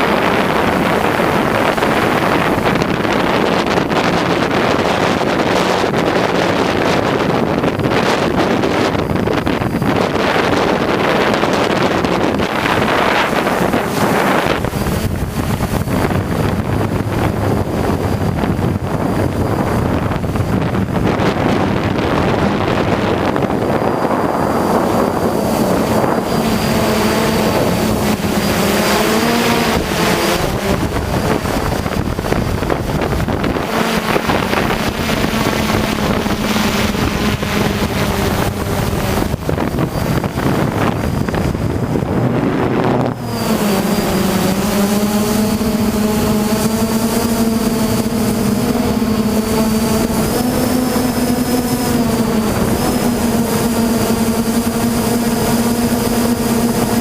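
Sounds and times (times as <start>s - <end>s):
drone motors whining: 0.0s - 57.0s
wind buffeting microphone: 0.0s - 57.0s.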